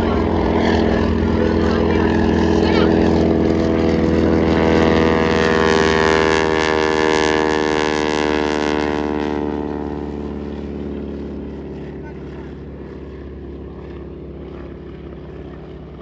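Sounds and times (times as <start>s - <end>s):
propeller airplane flying past: 0.0s - 16.0s.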